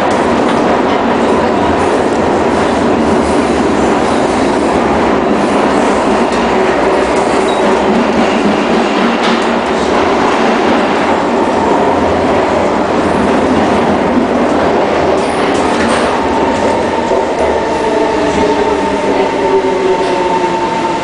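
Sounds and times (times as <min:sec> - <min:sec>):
metro train running noise: 0:00.0 - 0:21.0.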